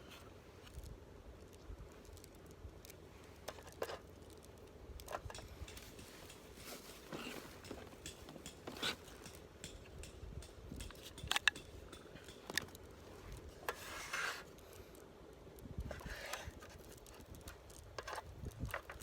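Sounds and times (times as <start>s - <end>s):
low room hum: 0.0s - 19.0s
small objects clicking and rustling: 0.1s - 19.0s.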